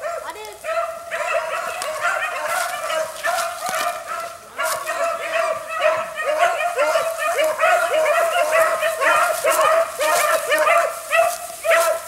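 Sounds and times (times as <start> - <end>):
dogs yelping: 0.0 - 12.0
hounds baying: 0.0 - 12.0.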